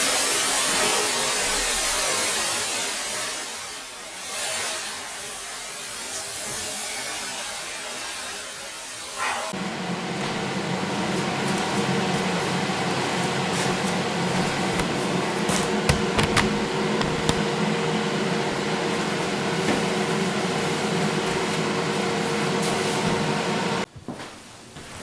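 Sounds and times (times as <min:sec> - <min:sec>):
motor humming and hissing: 0:00.0 - 0:23.9.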